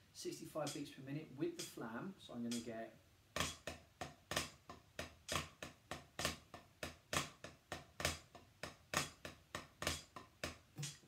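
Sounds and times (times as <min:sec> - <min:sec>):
drumsticks on practice pad: 0:00.5 - 0:11.0.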